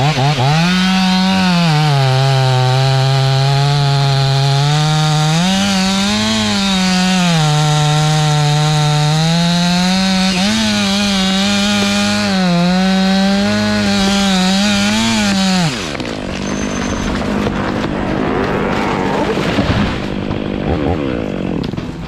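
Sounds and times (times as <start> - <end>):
chainsaw cutting wood: 0.0 - 22.0
wood cracking: 0.0 - 22.0.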